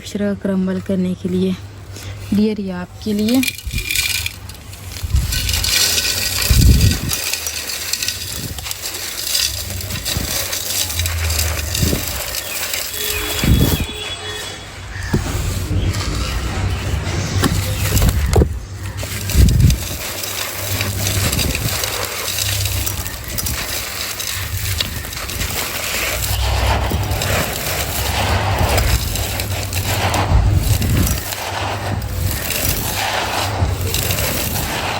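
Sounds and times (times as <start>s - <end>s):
brittle material crumbled by hand: 1.8s - 14.2s, 14.9s - 34.9s
small pieces falling: 3.0s - 14.2s, 15.0s - 34.9s.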